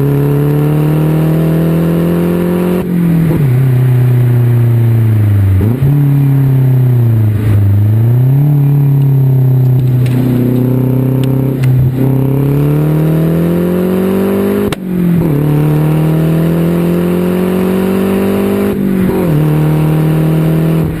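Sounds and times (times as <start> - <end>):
car exhaust accelerating: 0.0 - 21.0.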